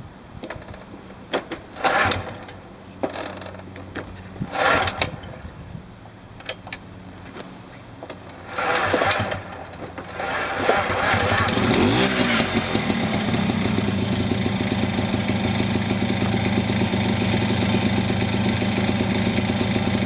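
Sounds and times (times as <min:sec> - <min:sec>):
moped engine running: 0:00.4 - 0:20.0
loud noisy engine bursts: 0:01.7 - 0:06.1, 0:07.9 - 0:20.0.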